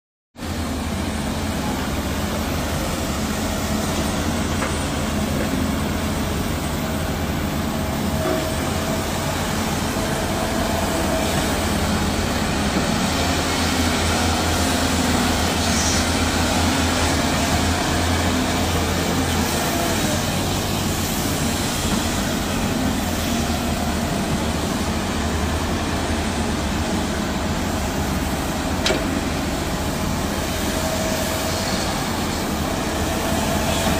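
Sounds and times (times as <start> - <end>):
excavator diesel engines rumbling: 0.4 - 33.9.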